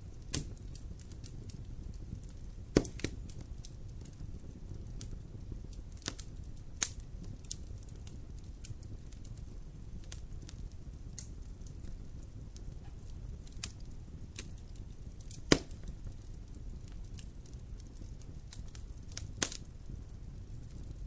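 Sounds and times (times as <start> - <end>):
fire popping: 0.0 - 21.0
wood fire crackling: 0.0 - 21.0.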